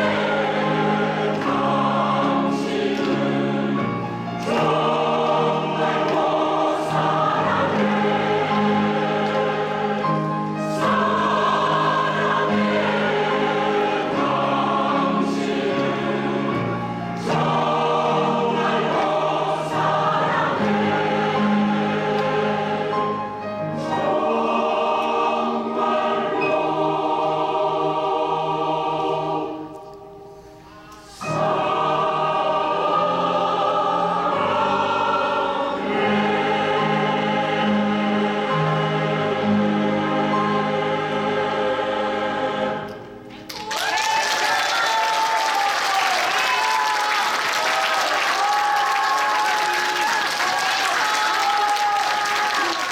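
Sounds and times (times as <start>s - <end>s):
women's choir singing: 0.0s - 43.5s, 46.0s - 52.9s.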